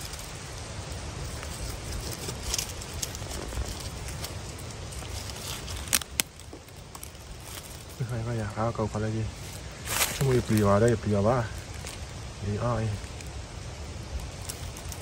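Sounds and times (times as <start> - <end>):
dry leaves crackling and rustling: 0.0 - 15.0
steady low rumble: 0.0 - 15.0.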